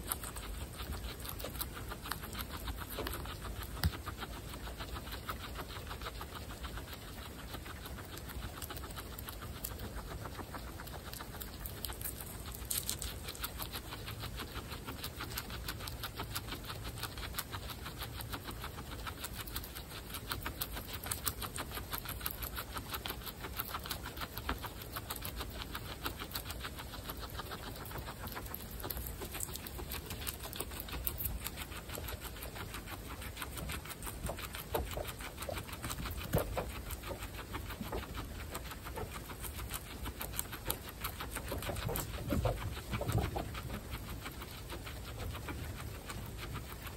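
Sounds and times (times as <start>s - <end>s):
guinea pigs chewing grass: 0.0s - 46.9s.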